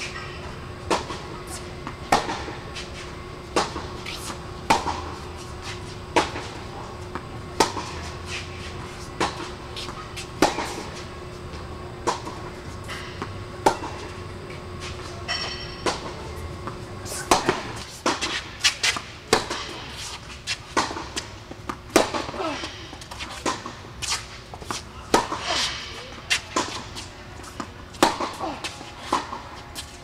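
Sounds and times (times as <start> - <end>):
tennis balls struck and bouncing: 0.0 - 30.0.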